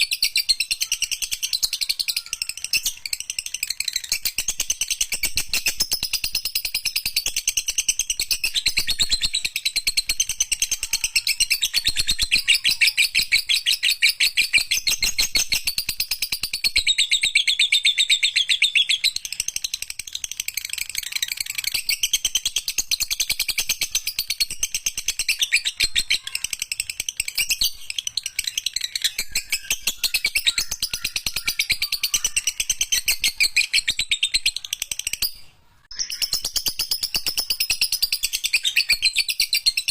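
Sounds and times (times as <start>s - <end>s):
lovebird chattering: 0.0s - 39.9s.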